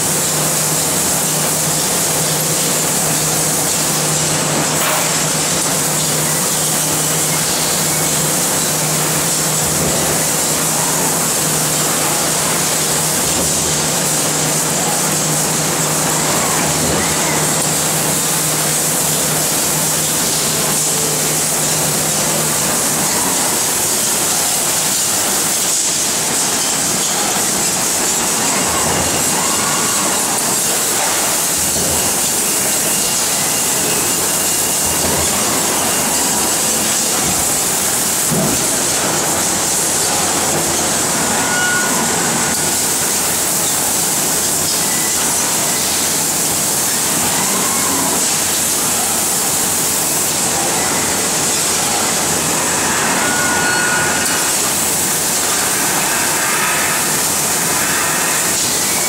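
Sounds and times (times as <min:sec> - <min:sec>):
hiss of running machinery: 0:00.0 - 0:59.0
faint machine whines: 0:02.3 - 0:59.0.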